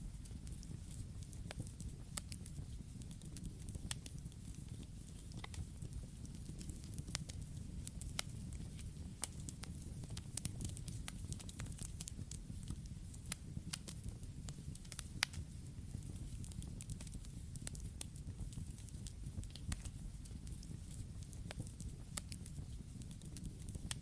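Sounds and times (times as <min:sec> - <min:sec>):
campfire crackling: 0:00.1 - 0:24.0.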